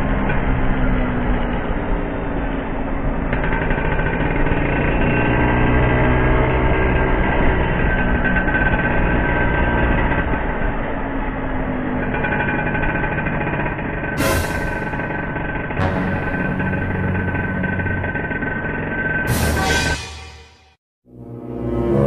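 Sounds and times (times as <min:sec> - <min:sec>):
scooter two-stroke engine running: 0:00.0 - 0:19.4.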